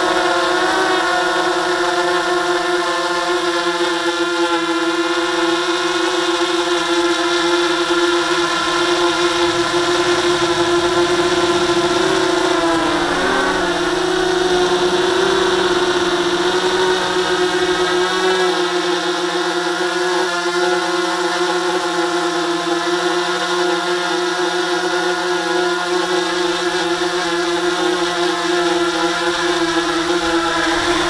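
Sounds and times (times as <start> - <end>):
quadcopter drone motors humming: 0.0 - 31.0.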